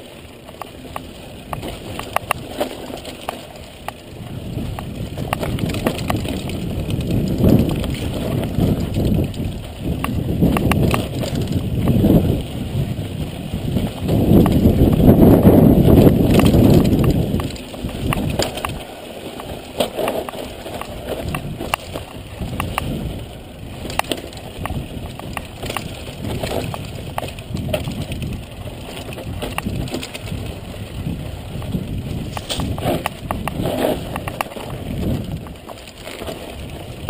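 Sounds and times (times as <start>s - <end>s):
bike clicks and rattles: 0.0s - 37.0s
bike tyres on loose dirt: 0.0s - 37.0s
wind on microphone: 3.9s - 37.0s.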